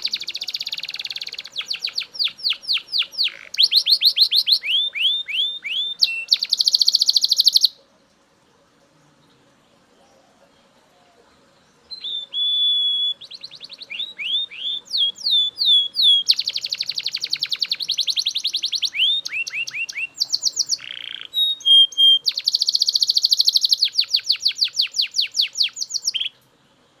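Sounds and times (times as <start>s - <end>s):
canary singing loudly: 0.0s - 7.8s, 11.9s - 26.3s.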